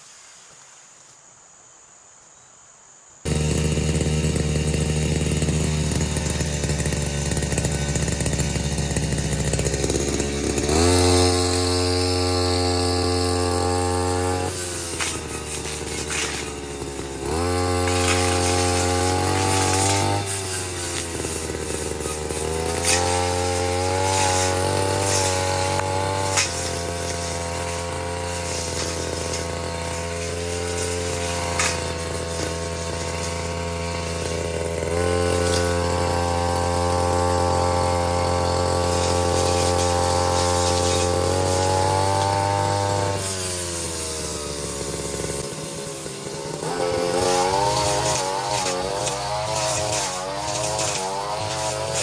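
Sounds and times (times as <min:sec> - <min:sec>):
brushcutter engine at high revs: 0:03.2 - 0:52.0.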